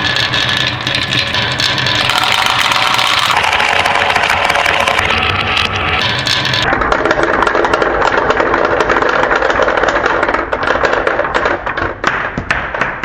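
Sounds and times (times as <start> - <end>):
marbles rolling down wooden run: 0.0 - 13.0.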